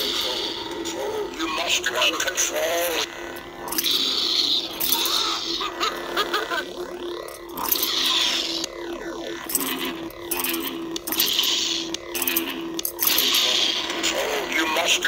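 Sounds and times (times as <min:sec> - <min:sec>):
lightsaber blade hum: 0:00.0 - 0:15.0.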